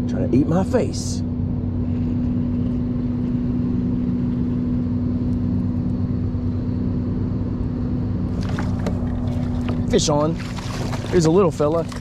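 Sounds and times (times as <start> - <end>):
low mechanical hum: 0.0 - 12.0
low rumble: 0.0 - 12.0.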